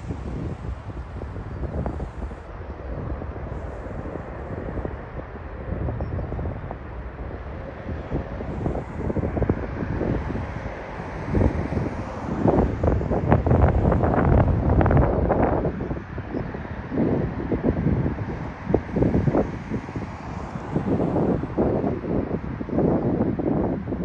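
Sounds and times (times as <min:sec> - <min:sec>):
jet airliner engine: 0:00.0 - 0:24.0
wind buffeting on microphone: 0:00.0 - 0:24.0.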